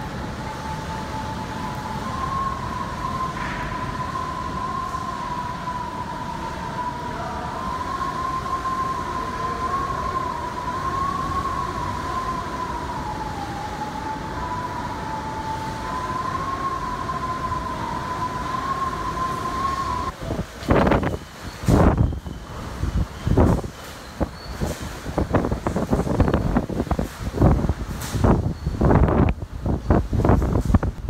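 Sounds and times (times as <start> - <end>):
wind rushing roar: 0.0 - 31.0
wind whistling through gaps: 0.0 - 31.0.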